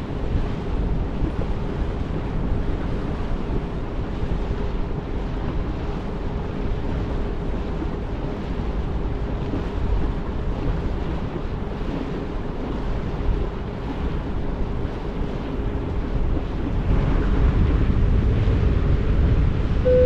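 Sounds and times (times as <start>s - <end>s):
ferry engine rumble: 0.0s - 20.0s
wind on microphone: 0.0s - 20.0s.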